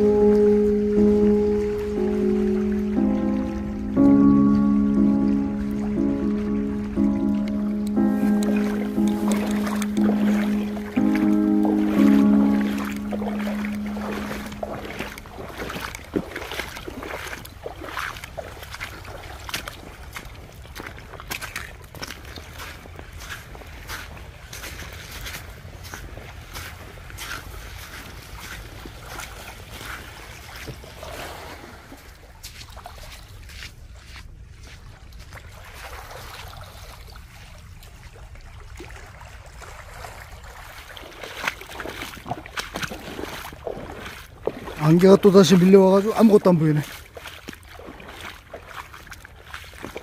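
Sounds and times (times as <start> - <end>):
water washing on pebble shore: 5.4 - 33.9, 35.1 - 50.0.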